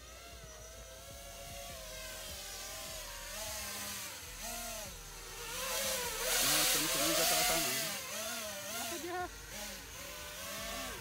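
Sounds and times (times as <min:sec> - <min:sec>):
drone propellers buzzing: 0:00.0 - 0:11.0.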